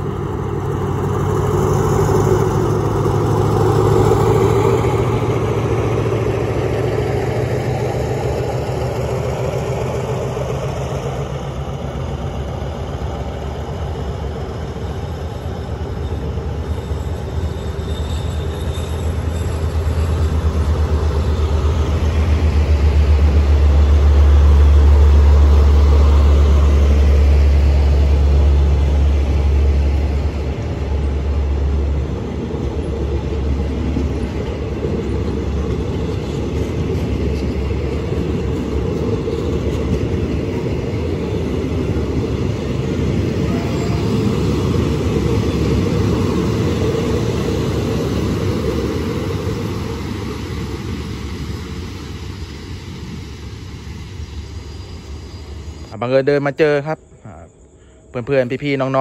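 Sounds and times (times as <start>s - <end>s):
locomotive rumble: 0.0s - 59.0s
train coaches rolling past: 0.0s - 59.0s.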